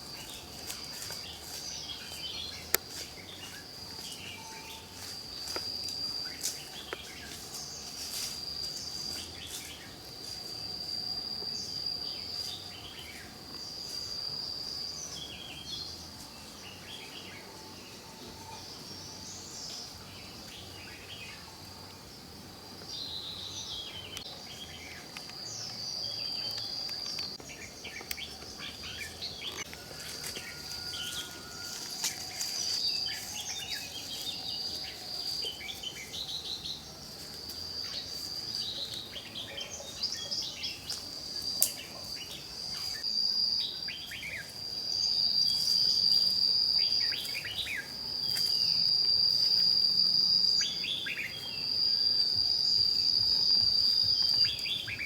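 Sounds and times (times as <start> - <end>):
high insect trill: 0.0 - 55.0.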